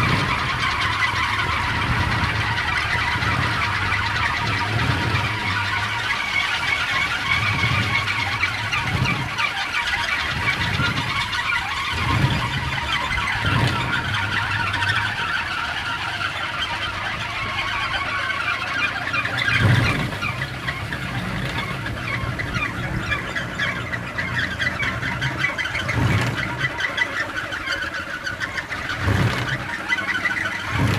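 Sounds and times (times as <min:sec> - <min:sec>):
wooden propeller droning in wind: 0:00.0 - 0:30.9.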